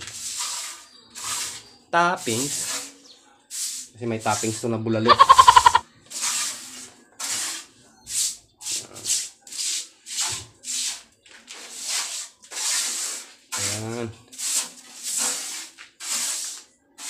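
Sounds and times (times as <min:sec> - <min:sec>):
brush scrubbing concrete: 0:00.0 - 0:17.0.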